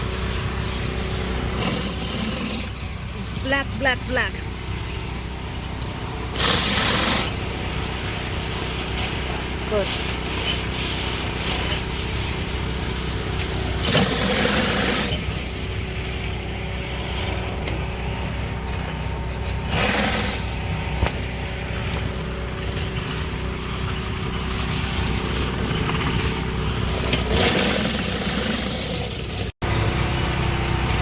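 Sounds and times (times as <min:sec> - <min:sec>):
spray hissing: 0:00.0 - 0:18.3, 0:19.7 - 0:31.0
pressure washer engine running: 0:00.0 - 0:31.0.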